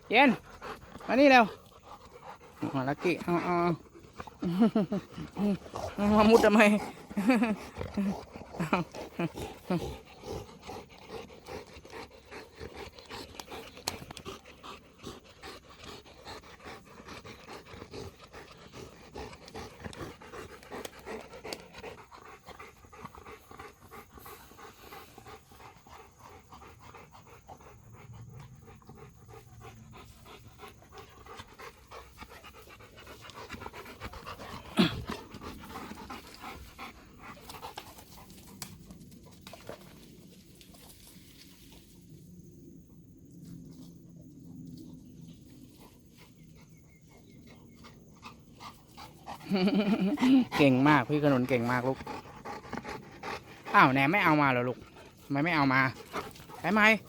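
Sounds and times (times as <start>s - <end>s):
dog panting: 0.0s - 39.9s, 45.9s - 57.0s.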